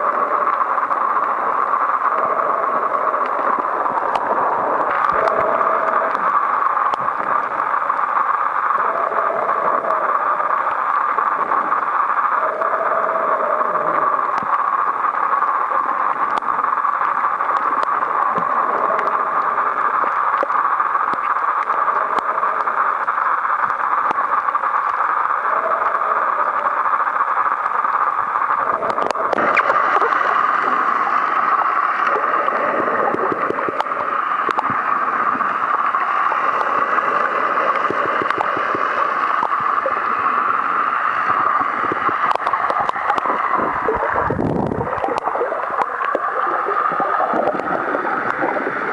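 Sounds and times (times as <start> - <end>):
small clicks and crackles: 0.0 - 48.9
underwater rushing and gurgling: 0.0 - 48.9.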